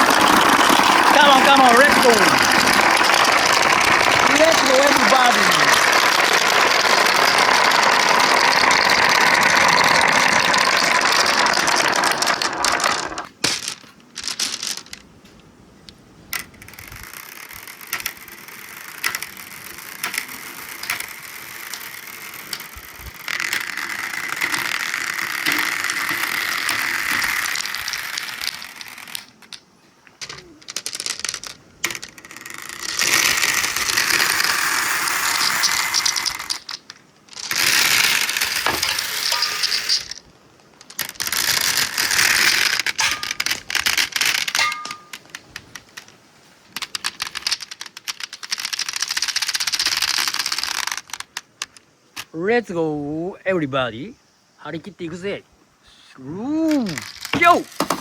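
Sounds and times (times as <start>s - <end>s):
marbles rattling through marble run: 0.0s - 15.0s, 16.3s - 46.1s, 46.7s - 52.3s, 56.4s - 58.0s.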